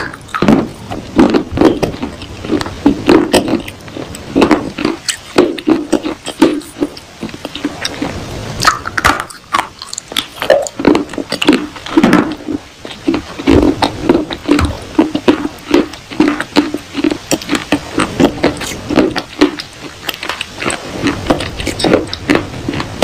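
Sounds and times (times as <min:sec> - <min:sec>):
crunching hard clay: 0:00.0 - 0:23.0.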